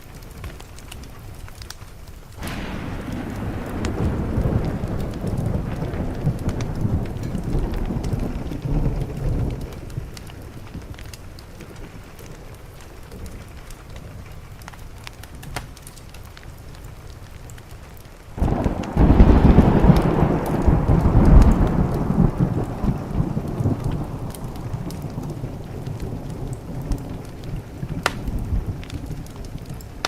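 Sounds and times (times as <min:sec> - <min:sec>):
faint crackles: 0:00.0 - 0:30.0
steady rain: 0:00.0 - 0:30.0
thunder clap and rumble: 0:02.4 - 0:17.2, 0:18.0 - 0:30.0.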